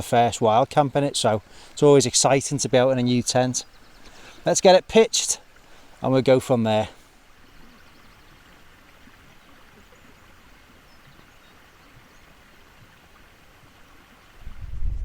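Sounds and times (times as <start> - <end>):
soft outdoor hiss: 0.0 - 15.0.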